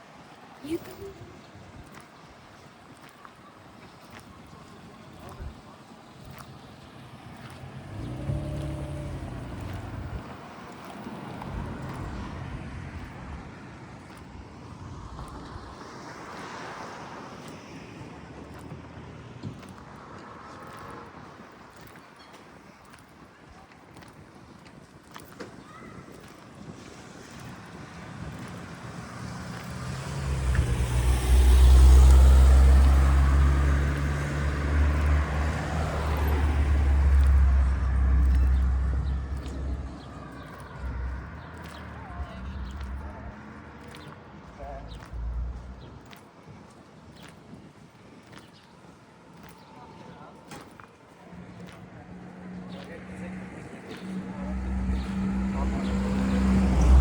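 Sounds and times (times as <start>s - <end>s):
cars passing: 4.1s - 23.0s, 26.6s - 57.0s.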